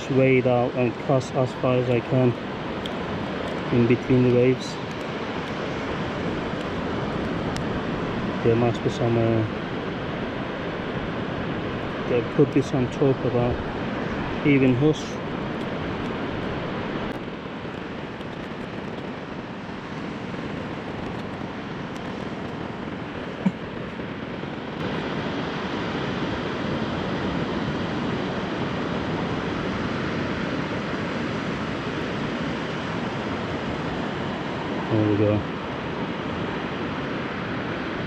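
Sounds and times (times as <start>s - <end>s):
sea surf washing on shore: 0.0s - 38.0s.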